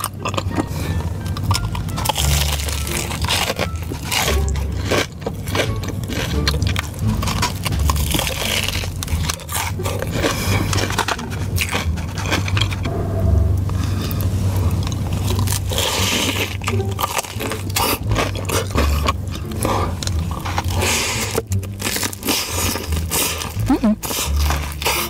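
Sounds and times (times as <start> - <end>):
crunching fried coating: 0.0 - 12.9, 14.0 - 25.0
chewing: 0.0 - 13.0, 13.6 - 25.0.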